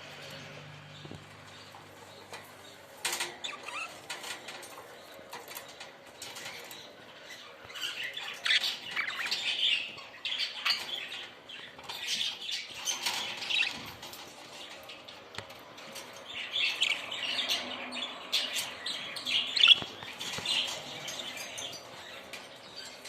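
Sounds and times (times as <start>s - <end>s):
budgerigars chirping and squawking: 0.2s - 23.0s.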